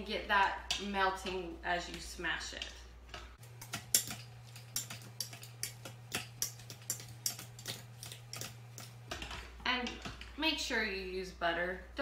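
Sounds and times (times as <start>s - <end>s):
potato masher knocking in metal pot: 0.4s - 10.3s.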